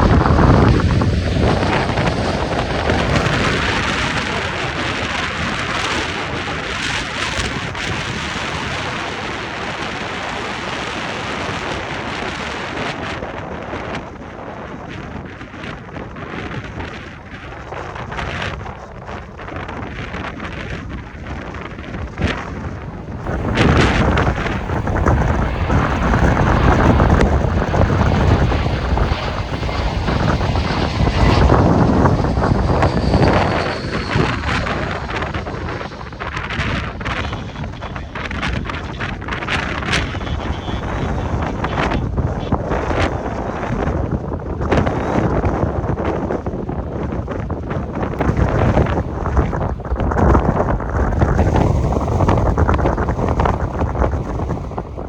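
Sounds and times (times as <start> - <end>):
jet engines rushing: 0.0 - 55.0
wind buffeting microphone: 0.0 - 55.0.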